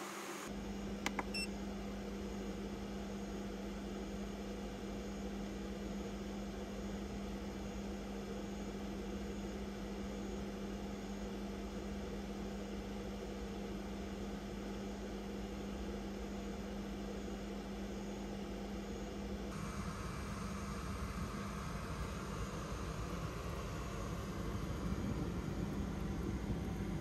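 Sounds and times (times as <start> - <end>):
cooling fans humming: 0.0 - 27.0.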